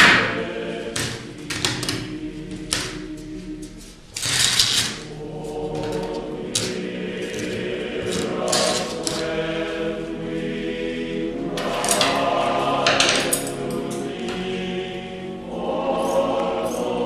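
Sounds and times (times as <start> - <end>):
choir singing slow held notes: 0.0 - 17.0.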